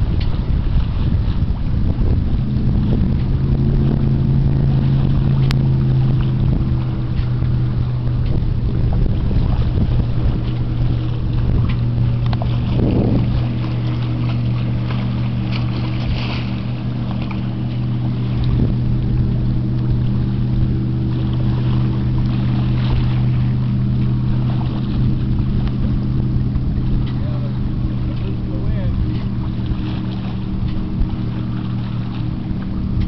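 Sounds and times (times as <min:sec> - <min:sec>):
boat engine humming: 0:00.0 - 0:33.0
wind on microphone: 0:00.0 - 0:33.0.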